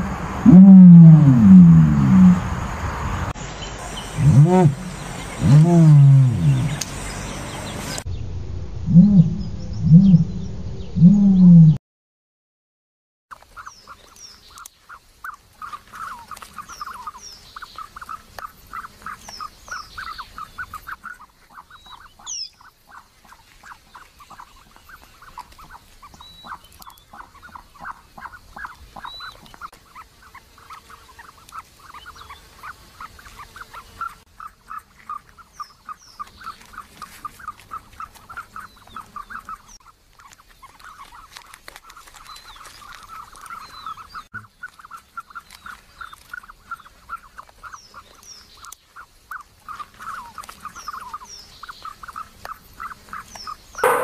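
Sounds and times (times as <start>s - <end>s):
small birds chirping: 1.8s - 8.2s, 13.3s - 54.0s
bird clucking calls: 3.6s - 8.0s, 13.3s - 54.0s.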